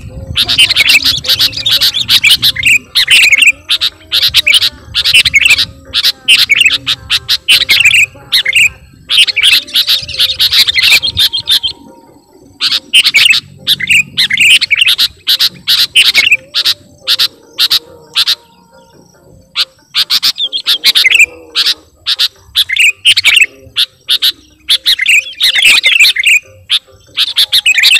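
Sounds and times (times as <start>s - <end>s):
bird chirping song: 0.0s - 27.9s.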